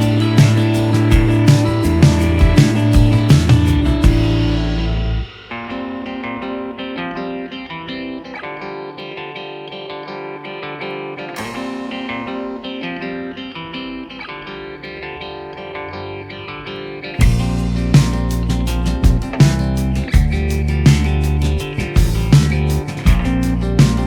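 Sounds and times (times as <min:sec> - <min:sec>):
plucked guitar music: 0:00.0 - 0:24.0.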